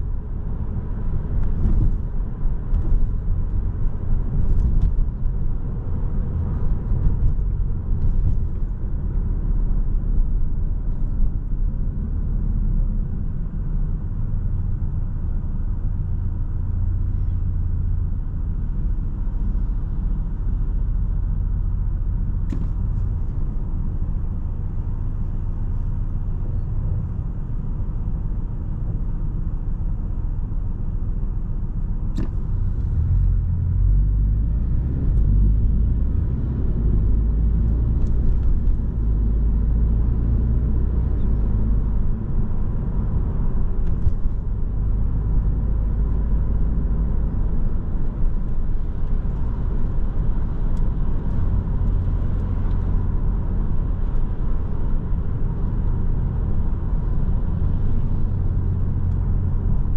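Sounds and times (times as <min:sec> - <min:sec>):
car engine rumble: 0:00.0 - 0:59.9
road noise: 0:00.0 - 0:59.9.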